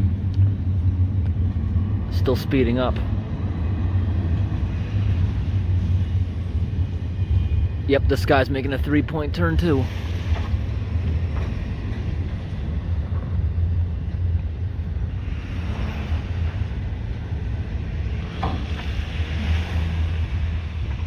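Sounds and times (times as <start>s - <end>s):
freight train cars rolling past: 0.0s - 21.0s.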